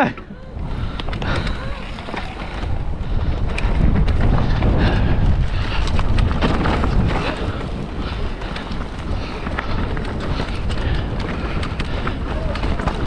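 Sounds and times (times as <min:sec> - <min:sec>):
bike frame and tyres rattling: 0:00.0 - 0:13.0
wind buffeting microphone: 0:00.0 - 0:13.0.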